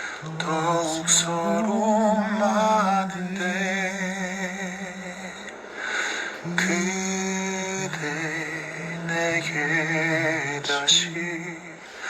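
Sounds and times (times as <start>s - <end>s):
man singing a slow ballad: 0.0s - 12.0s.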